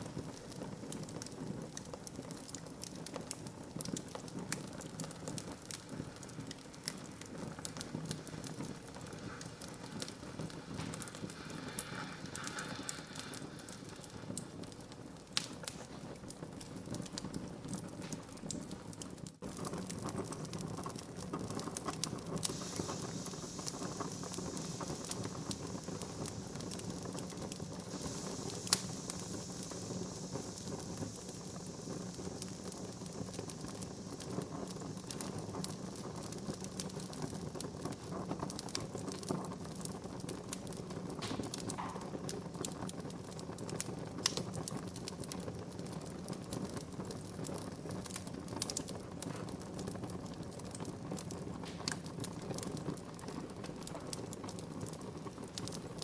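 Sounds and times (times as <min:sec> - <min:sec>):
fire flames rushing: 0:00.0 - 0:56.0
wood crackling and popping: 0:00.0 - 0:56.0.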